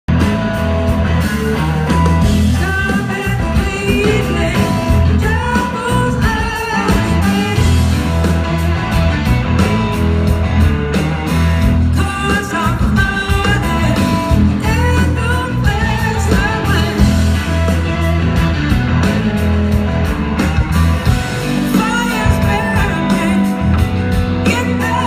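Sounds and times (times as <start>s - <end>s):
bass: 0.0s - 25.0s
drums: 0.0s - 25.0s
electric guitar melody: 0.1s - 25.0s.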